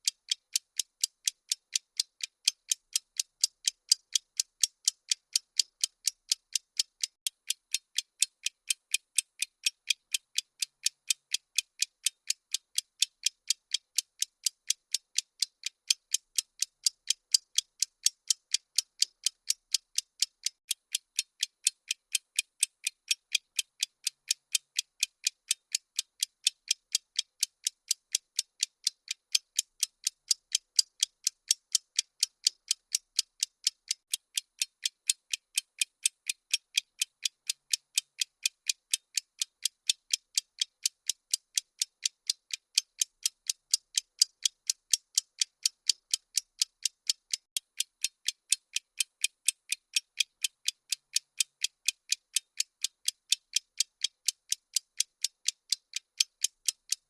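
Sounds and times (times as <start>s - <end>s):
fast timer ticking: 0.0s - 57.0s.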